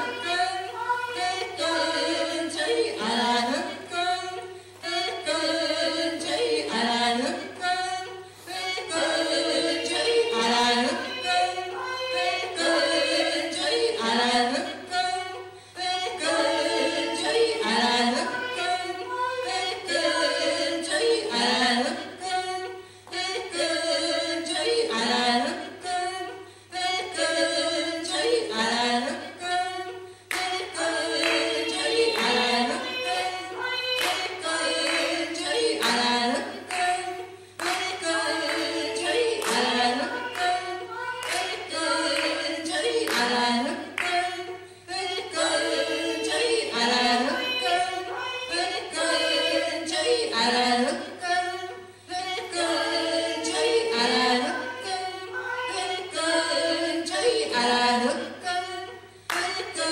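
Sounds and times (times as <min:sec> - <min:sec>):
women singing unaccompanied chant: 0:00.0 - 0:59.9.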